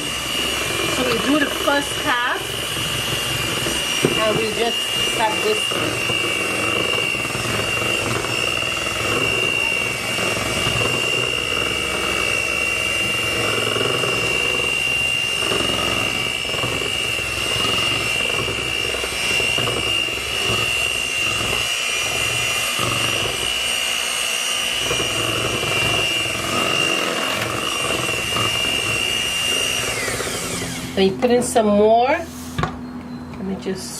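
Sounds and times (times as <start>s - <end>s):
electric mixer whining: 0.0s - 33.1s.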